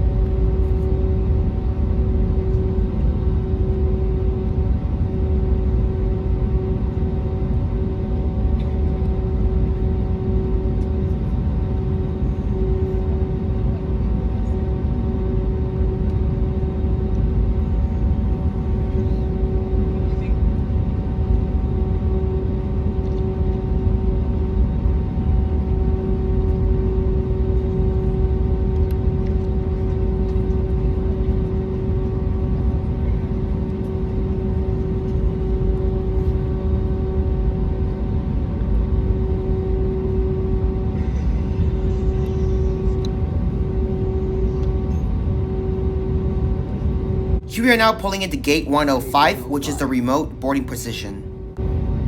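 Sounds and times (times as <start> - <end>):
aircraft engines idling rumble: 0.0 - 27.0, 27.9 - 47.4
constant hum tone: 0.0 - 52.0.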